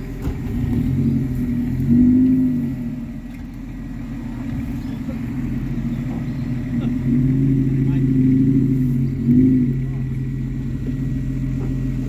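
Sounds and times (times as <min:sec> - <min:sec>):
off-road engine revving: 0:00.0 - 0:12.0.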